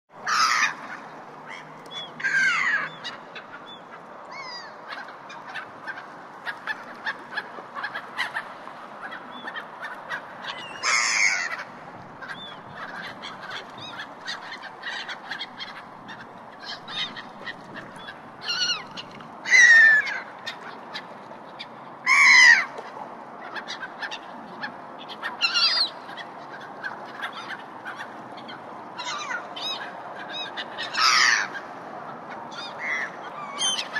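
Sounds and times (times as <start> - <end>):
gulls calling: 0.1 - 33.9.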